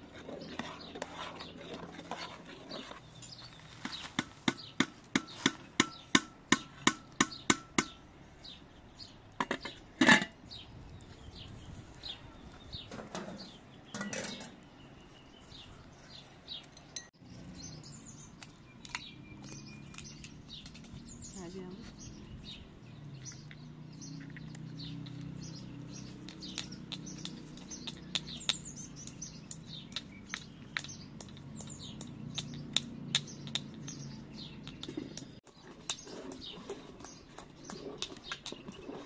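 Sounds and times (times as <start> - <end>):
faint birds chirping: 0.0 - 39.0.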